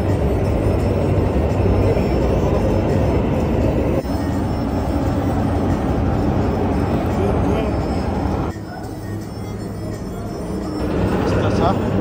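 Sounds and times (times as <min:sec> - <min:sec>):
loud mechanical rumble: 0:00.0 - 0:12.0.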